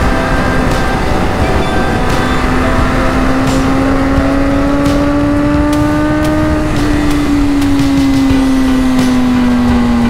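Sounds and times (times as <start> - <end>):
heavy wind rush: 0.0 - 10.0
motorcycle engine revving: 0.0 - 10.0.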